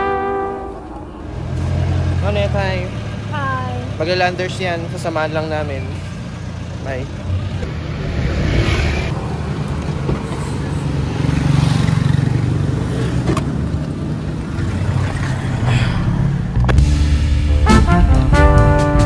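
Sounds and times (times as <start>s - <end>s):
engine rumble: 0.0s - 19.0s.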